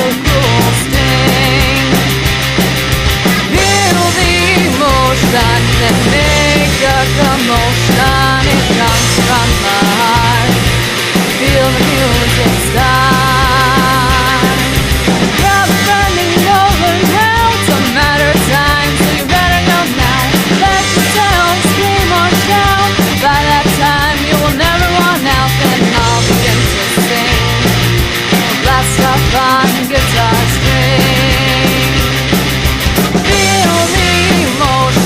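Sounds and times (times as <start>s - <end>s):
rock band playing: 0.0s - 35.0s.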